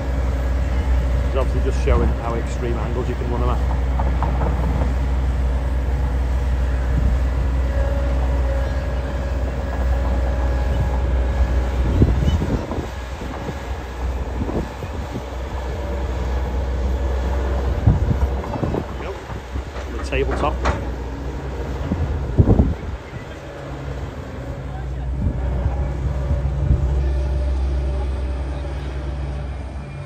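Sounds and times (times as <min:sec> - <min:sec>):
excavator diesel engine drone: 0:00.0 - 0:30.0
excavator tracks clanking: 0:00.7 - 0:30.0.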